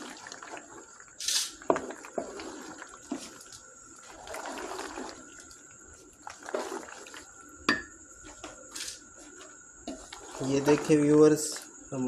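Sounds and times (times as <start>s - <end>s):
spoon stirring pasta in sauce: 0.0s - 11.6s.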